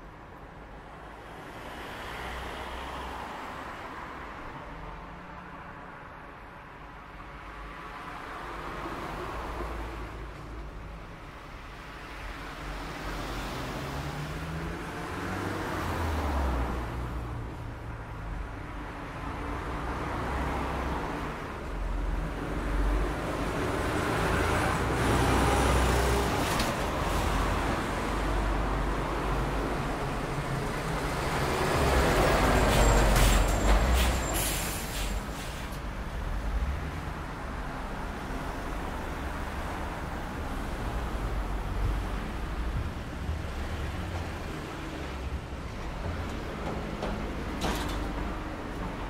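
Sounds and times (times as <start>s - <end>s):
cars passing and accelerating: 0.0s - 49.0s.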